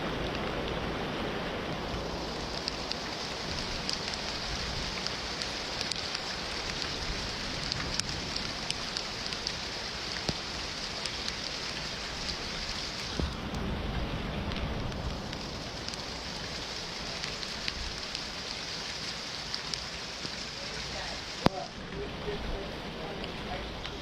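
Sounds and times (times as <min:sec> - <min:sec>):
rain falling: 0:00.0 - 0:24.0
raindrops clicking on a surface: 0:00.0 - 0:24.0.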